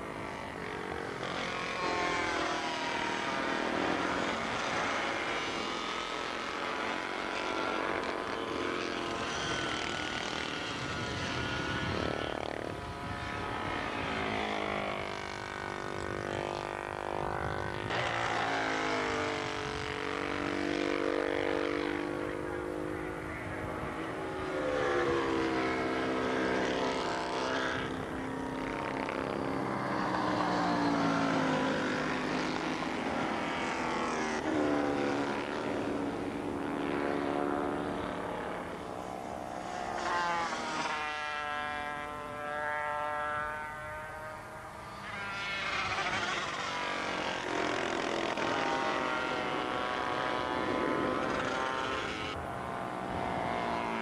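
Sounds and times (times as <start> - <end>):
racing motorcycles passing: 0.0 - 54.0.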